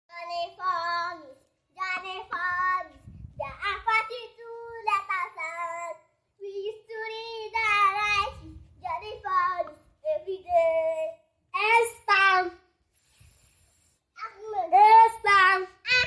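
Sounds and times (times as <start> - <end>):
child singing: 0.1 - 12.7, 14.2 - 16.0.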